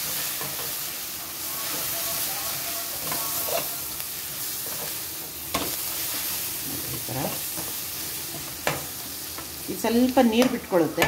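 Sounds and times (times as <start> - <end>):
spatula stirring: 0.0 - 9.6
food sizzling in a pan: 0.0 - 11.0.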